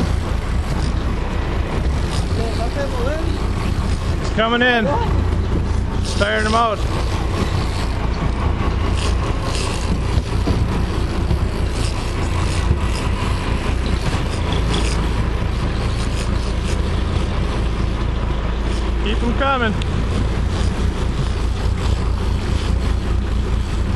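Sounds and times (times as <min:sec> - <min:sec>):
boat engine rumbling: 0:00.0 - 0:23.9
water wash: 0:00.0 - 0:23.9.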